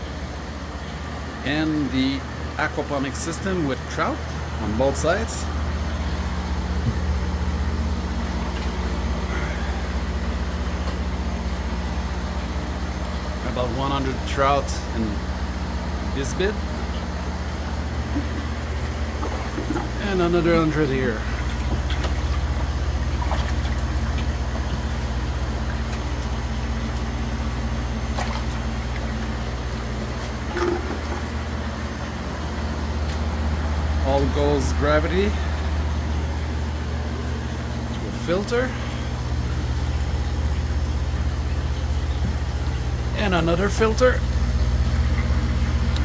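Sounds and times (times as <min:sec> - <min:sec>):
pump electric hum: 0:00.0 - 0:46.0
water churning in a tank: 0:00.0 - 0:46.0.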